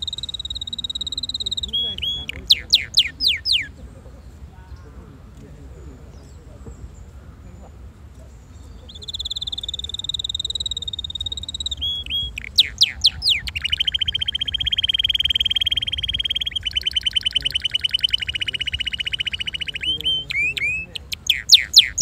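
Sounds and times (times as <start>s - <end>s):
canary singing trills: 0.0s - 4.9s, 8.4s - 22.0s.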